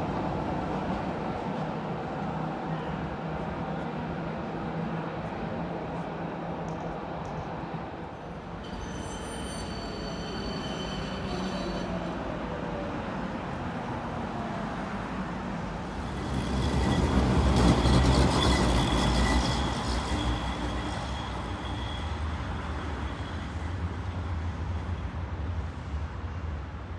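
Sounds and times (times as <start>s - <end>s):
tram wheels rumbling on rails: 0.0s - 26.9s.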